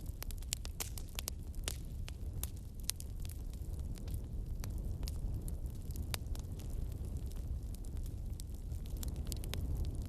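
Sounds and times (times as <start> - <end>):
bonfire flames rumbling: 0.0 - 10.0
burning wood crackling: 0.0 - 10.0.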